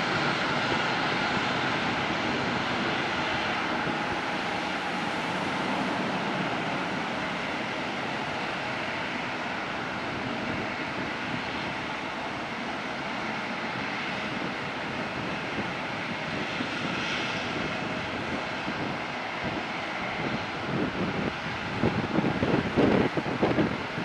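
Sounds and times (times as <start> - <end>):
jet engines at takeoff power: 0.0 - 24.0.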